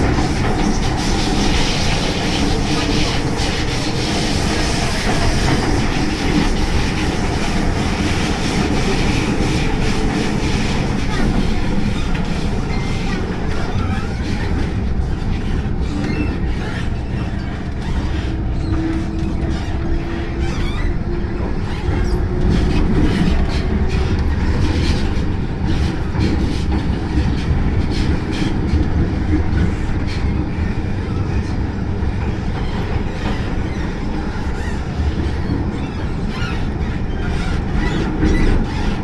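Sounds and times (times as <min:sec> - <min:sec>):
track clickety-clack: 0:00.0 - 0:39.0
train wheels rumbling on rail: 0:00.0 - 0:39.0.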